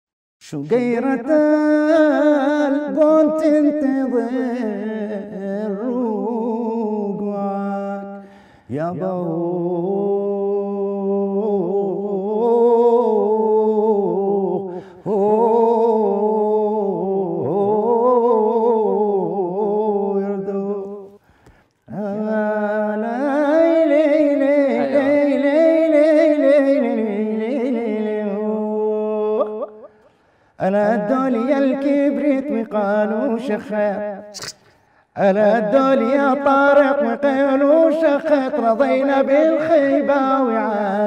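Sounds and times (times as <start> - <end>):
man singing unaccompanied: 0.4 - 21.2, 21.9 - 41.0.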